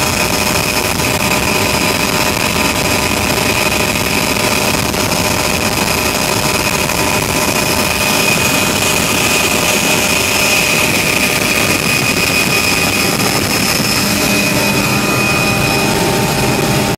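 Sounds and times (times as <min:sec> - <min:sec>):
constant high whine: 0:00.0 - 0:16.9
helicopter engine and rotor noise: 0:00.0 - 0:16.9.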